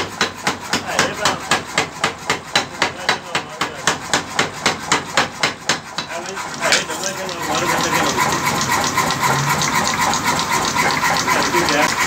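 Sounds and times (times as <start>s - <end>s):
power hammer striking metal: 0.0s - 12.0s.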